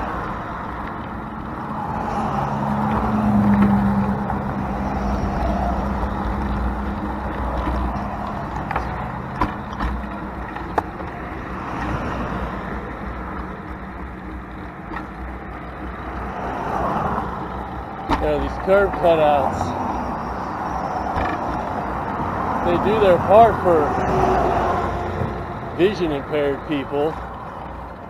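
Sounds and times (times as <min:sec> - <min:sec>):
traffic rumble: 0:00.0 - 0:28.0
vehicle engine hum: 0:00.0 - 0:28.0.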